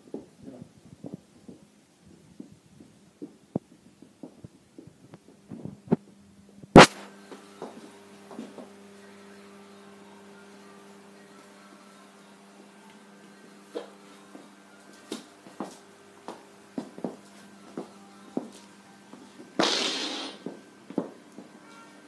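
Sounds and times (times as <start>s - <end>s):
steady low hum with tones: 0.0s - 22.0s.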